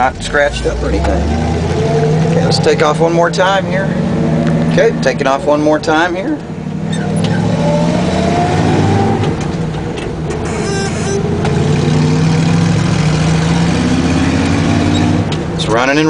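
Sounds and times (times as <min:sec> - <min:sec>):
truck engine accelerating: 0:00.0 - 0:16.0.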